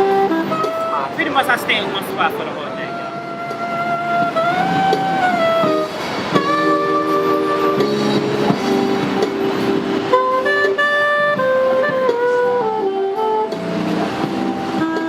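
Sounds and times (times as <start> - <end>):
held melody notes: 0.0 - 15.0
plucked string accompaniment: 0.0 - 15.0.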